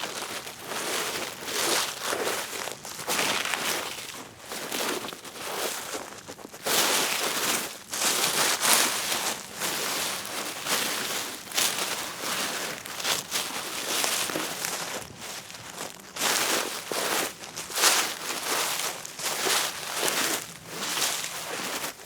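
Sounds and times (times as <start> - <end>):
dry leaves rustling: 0.0 - 22.0.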